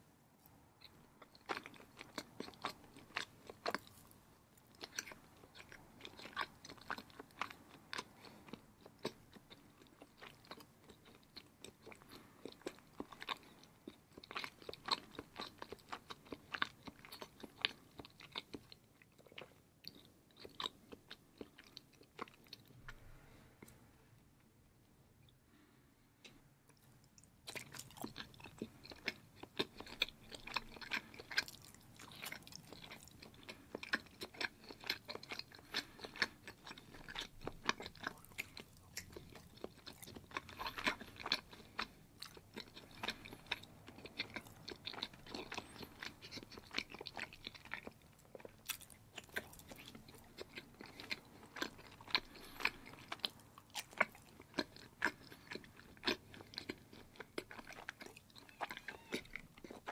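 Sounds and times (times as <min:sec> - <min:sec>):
person chewing cheese: 0:00.4 - 0:23.8, 0:25.2 - 0:59.9.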